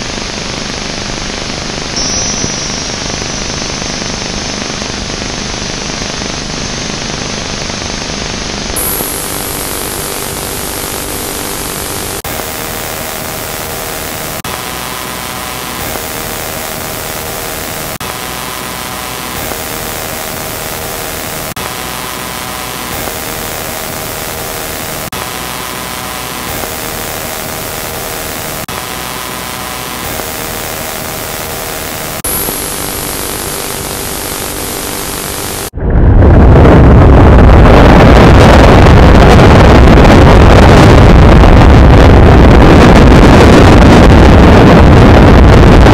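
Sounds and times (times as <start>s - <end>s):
tv static hiss: 0.0s - 35.7s, 37.3s - 45.9s.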